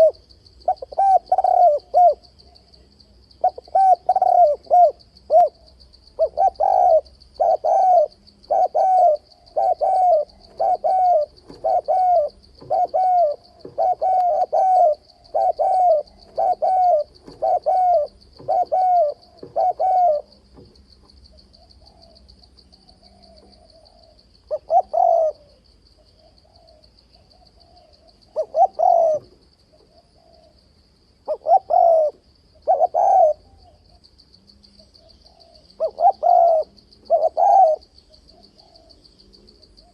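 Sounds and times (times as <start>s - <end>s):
dove cooing: 0.0s - 30.6s, 31.2s - 34.0s, 34.8s - 39.9s.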